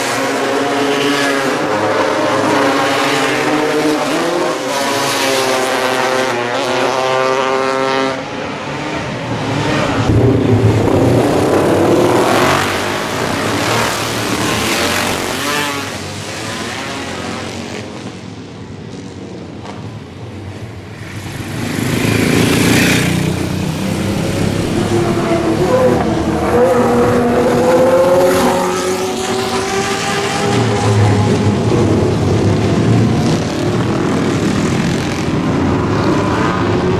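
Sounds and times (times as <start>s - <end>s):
racing motorcycles passing at high revs: 0.0s - 36.9s.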